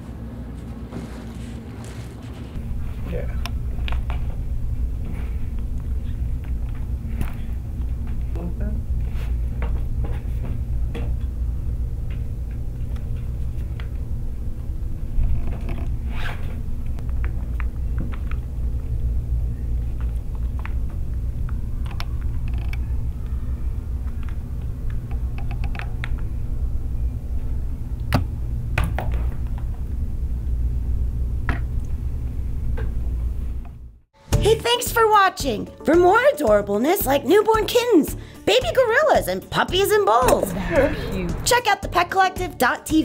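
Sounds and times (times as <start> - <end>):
steady low rumble: 0.0 - 34.1, 40.1 - 42.2.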